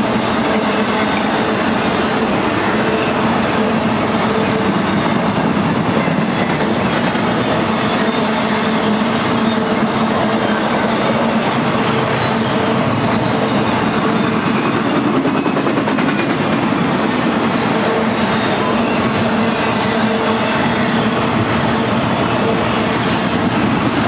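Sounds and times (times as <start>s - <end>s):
freight train rolling past: 0.0s - 24.0s.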